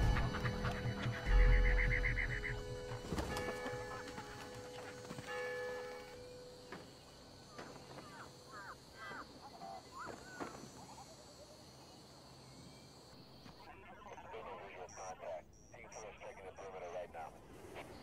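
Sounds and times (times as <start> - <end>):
birds chirping: 0.0 - 18.0
high insect drone: 0.0 - 18.0.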